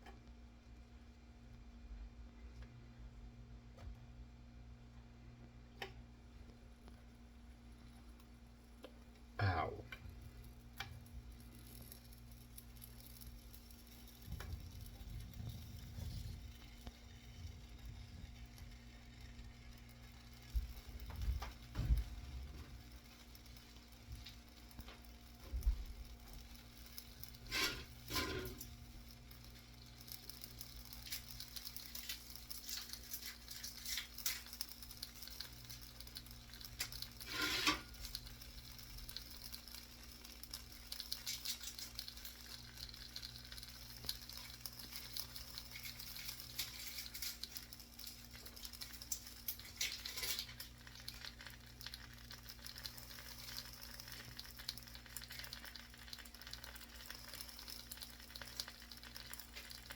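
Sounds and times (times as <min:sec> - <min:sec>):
food sizzling in a pan: 0:06.6 - 0:59.9.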